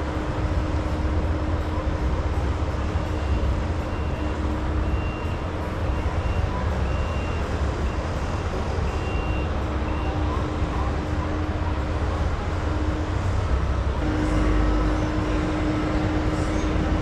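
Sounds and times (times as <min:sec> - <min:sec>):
ride machinery rumble and hum: 0:00.0 - 0:17.0.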